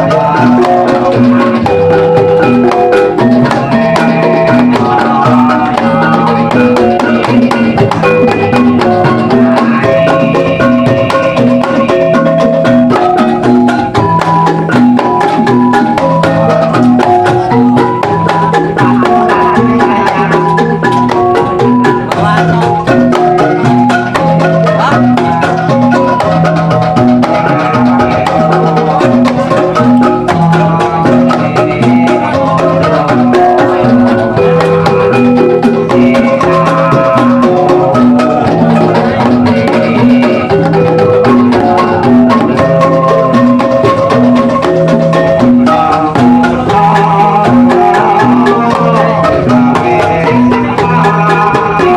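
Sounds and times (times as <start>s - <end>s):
gamelan ensemble playing: 0.0s - 51.9s.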